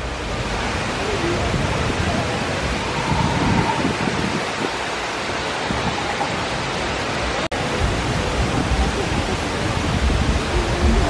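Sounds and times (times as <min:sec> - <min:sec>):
waterfalls rushing: 0:00.0 - 0:11.0.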